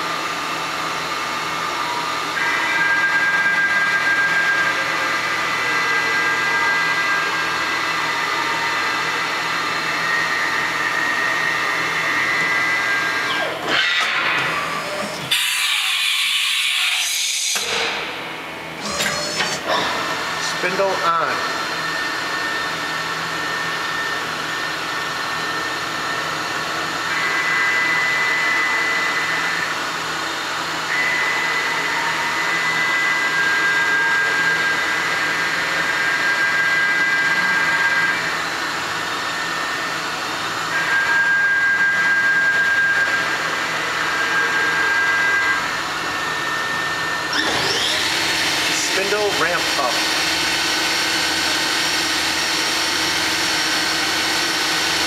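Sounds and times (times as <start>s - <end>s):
machining center whine and hum: 0.0s - 55.0s.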